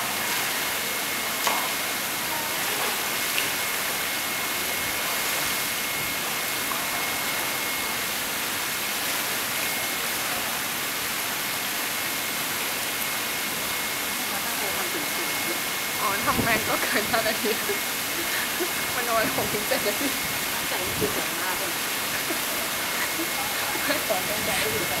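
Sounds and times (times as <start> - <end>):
water cascade rushing: 0.0 - 25.0.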